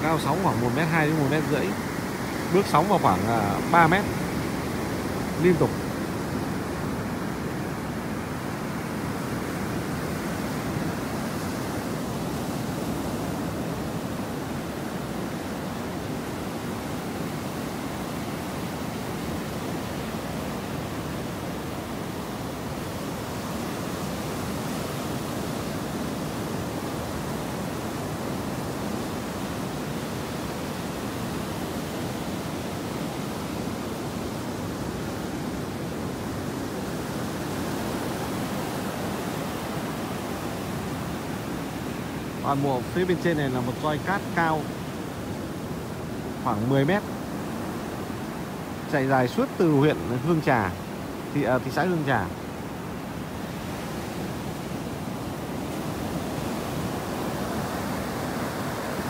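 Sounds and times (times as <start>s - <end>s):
waves breaking on shore: 0.0s - 59.0s.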